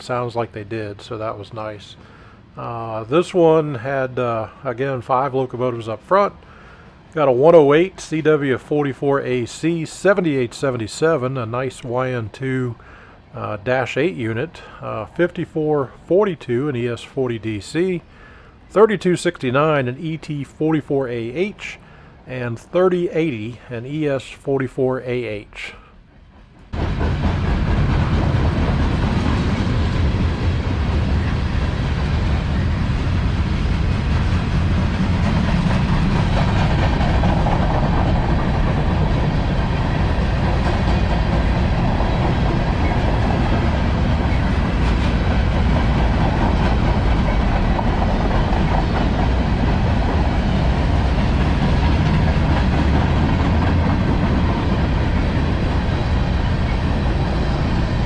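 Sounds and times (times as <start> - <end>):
freight train wheels on rails: 3.0 - 58.0.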